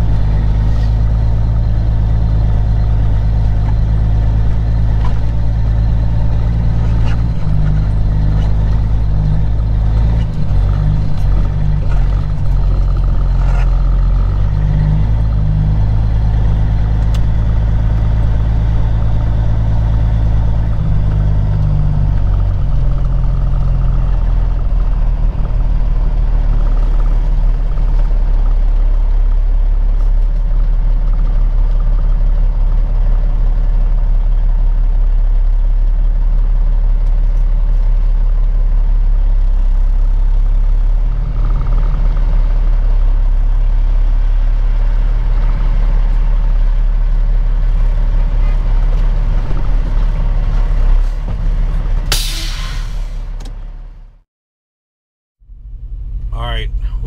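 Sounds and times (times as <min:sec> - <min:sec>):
diesel truck engine running: 0:00.0 - 0:54.2, 0:55.4 - 0:57.0.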